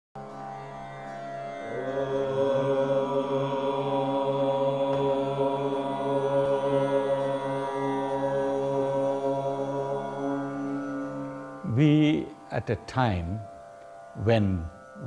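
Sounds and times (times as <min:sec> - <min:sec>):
instrumental music drone: 0:00.2 - 0:15.0
voice chanting: 0:01.6 - 0:13.5, 0:14.2 - 0:14.8.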